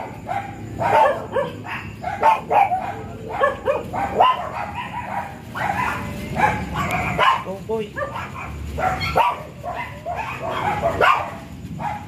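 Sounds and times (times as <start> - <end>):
dogs yipping and whining: 0.0 - 12.0.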